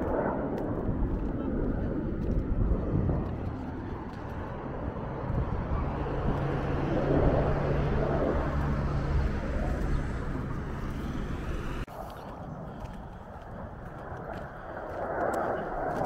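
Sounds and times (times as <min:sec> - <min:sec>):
jet engine roaring past: 0:00.0 - 0:16.0.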